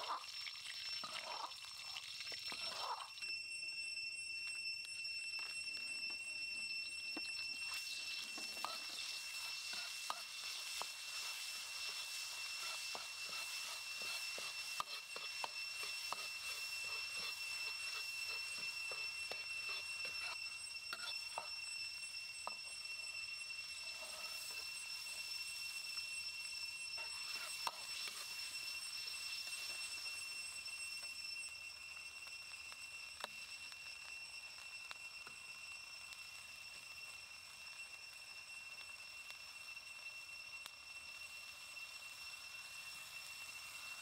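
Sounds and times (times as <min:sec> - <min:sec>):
paste sizzling in oil: 0:00.0 - 0:03.8, 0:06.2 - 0:44.0.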